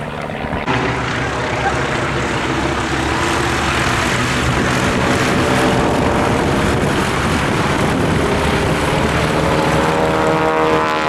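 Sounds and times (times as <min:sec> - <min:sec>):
propeller planes droning overhead: 0:00.0 - 0:11.0.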